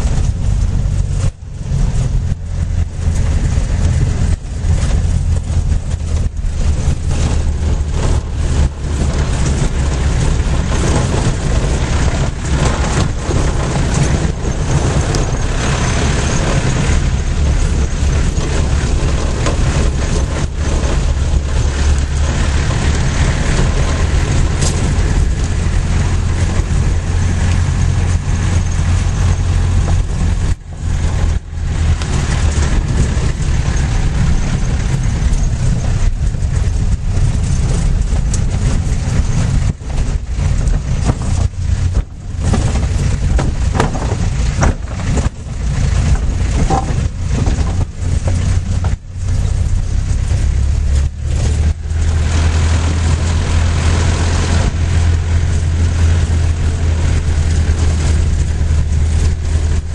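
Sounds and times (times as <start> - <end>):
heavy vehicle engine running: 0.0 - 59.9
jolts and rattles on gravel road: 0.0 - 59.9.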